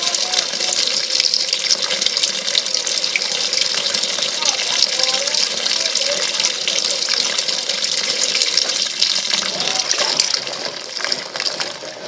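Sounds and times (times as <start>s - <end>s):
water gushing into washing machine: 0.0s - 12.0s.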